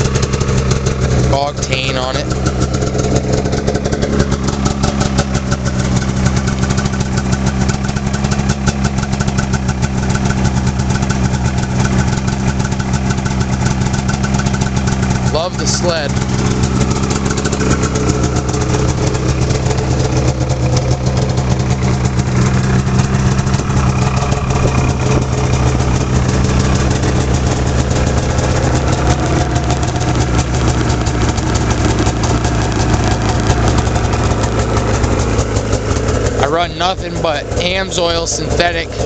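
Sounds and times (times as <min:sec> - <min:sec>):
snowmobile engine idling: 0:00.0 - 0:39.0.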